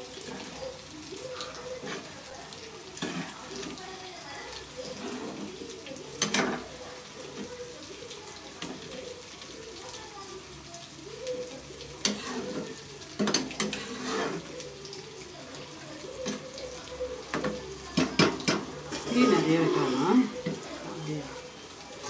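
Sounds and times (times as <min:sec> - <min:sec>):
thick gravy sloshing: 0:00.0 - 0:22.0.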